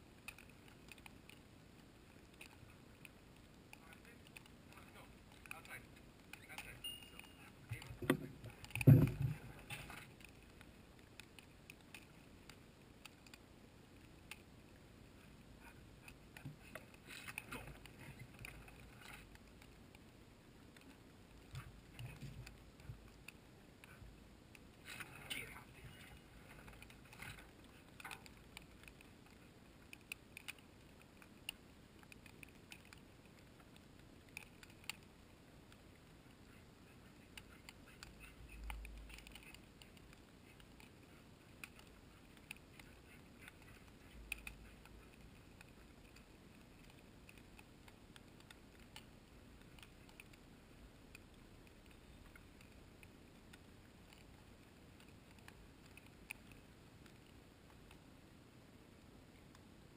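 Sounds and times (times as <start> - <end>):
faint clicks and ticks: 0.0 - 59.9.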